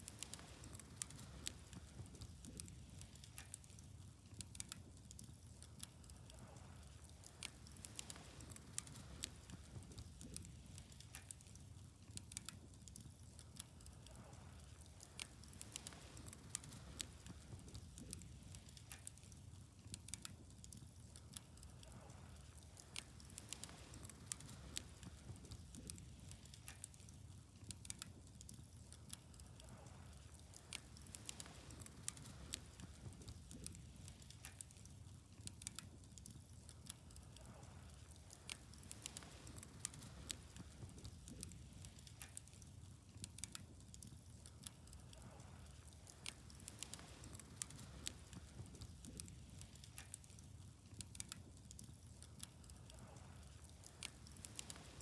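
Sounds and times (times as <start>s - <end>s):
fire crackling and popping: 0.0s - 55.0s
low steady fire rumble: 0.0s - 55.0s.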